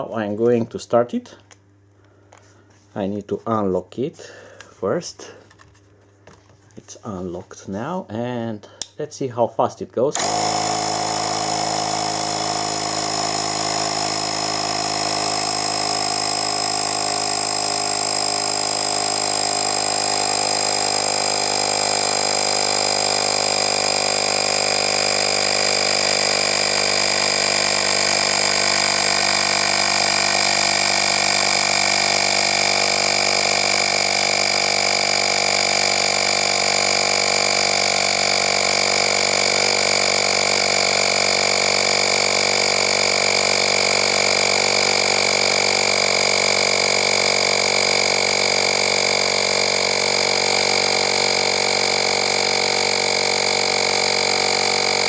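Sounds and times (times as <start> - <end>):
tire inflator compressor running: 1.3 - 2.9, 10.1 - 55.0.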